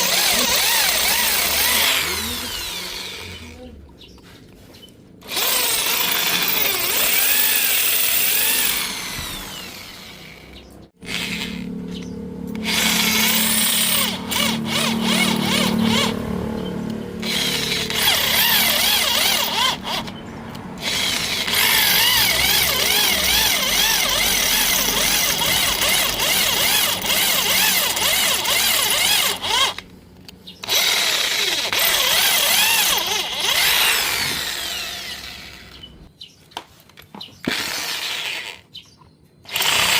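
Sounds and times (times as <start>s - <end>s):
electric drill drilling metal: 0.0s - 3.6s, 5.2s - 11.7s, 12.5s - 16.2s, 17.2s - 20.1s, 20.8s - 29.8s, 30.6s - 35.9s, 37.5s - 38.6s, 39.5s - 39.9s.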